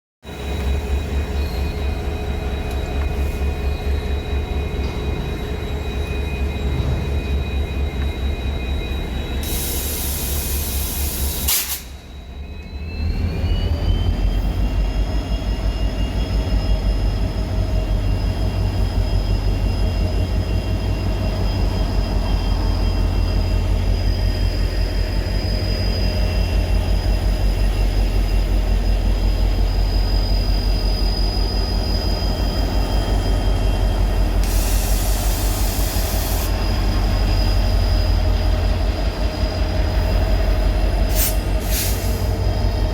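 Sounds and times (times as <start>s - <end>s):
diesel locomotive engine hum: 0.2s - 42.9s.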